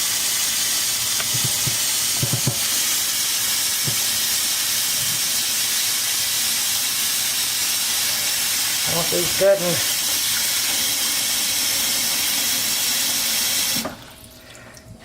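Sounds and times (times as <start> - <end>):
tap water running into container: 0.0 - 14.3.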